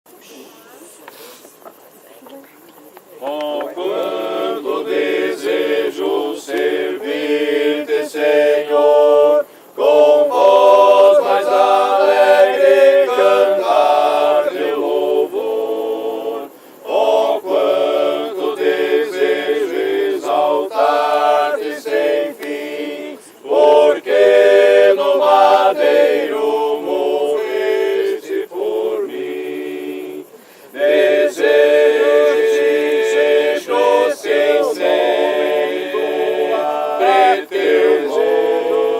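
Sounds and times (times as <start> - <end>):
group of people singing: 3.2 - 38.9.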